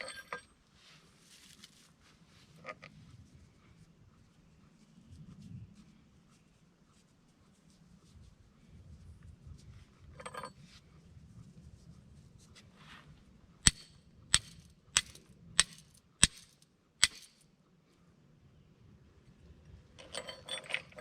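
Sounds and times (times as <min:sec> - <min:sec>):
rustle: 0:00.0 - 0:18.1.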